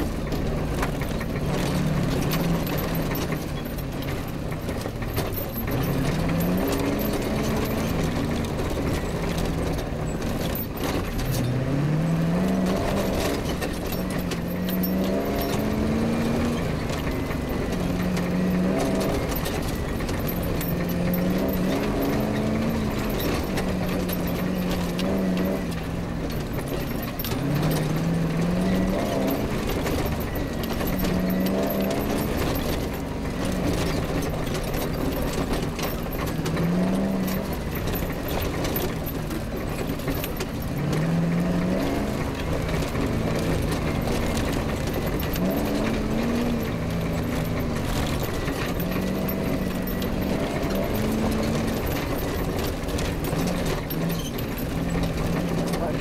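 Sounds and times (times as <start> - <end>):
car body knocks and rattles: 0.0 - 56.0
rally car engine revving: 0.0 - 56.0.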